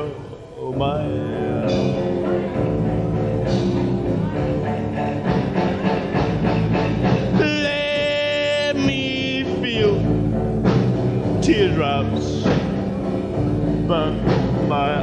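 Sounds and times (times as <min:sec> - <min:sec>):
rock and roll band playing live: 0:00.7 - 0:15.0.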